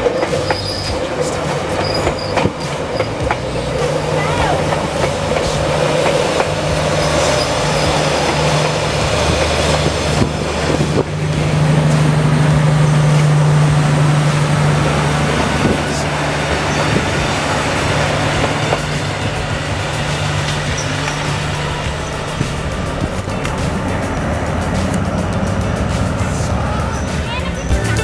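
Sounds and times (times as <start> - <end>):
train wheels on rails: 0.0 - 27.9
diesel engine hum: 0.0 - 28.0.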